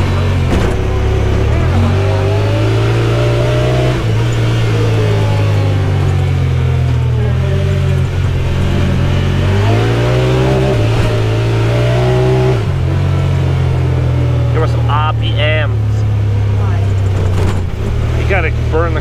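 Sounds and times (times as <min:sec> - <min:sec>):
utv engine droning: 0:00.0 - 0:19.0.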